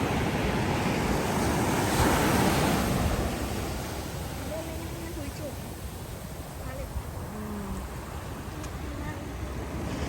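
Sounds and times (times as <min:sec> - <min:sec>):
sea surf washing onto beach: 0:00.0 - 0:10.0
wind rumbling on microphone: 0:00.0 - 0:10.0.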